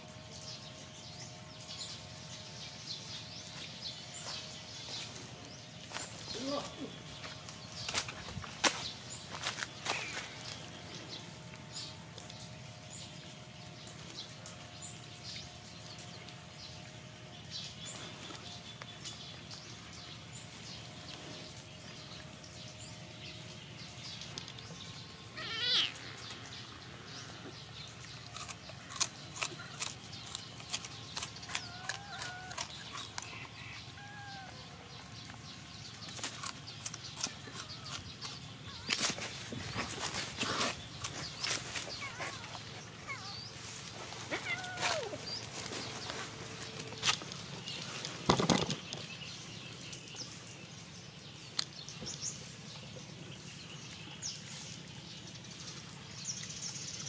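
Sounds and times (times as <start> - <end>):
steady low hum: 0.0 - 48.3.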